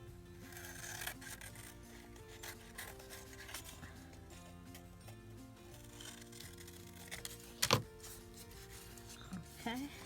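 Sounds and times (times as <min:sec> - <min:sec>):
soft background music: 0:00.0 - 0:10.0
paper and card rustling: 0:00.7 - 0:04.9, 0:05.7 - 0:10.0.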